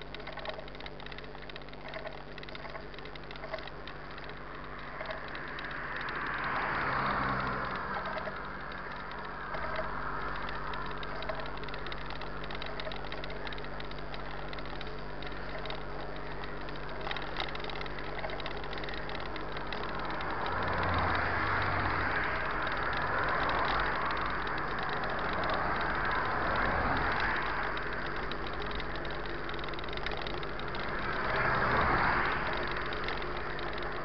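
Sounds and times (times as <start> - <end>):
steady low hum: 0.0 - 34.0
highway traffic passing: 3.8 - 34.0.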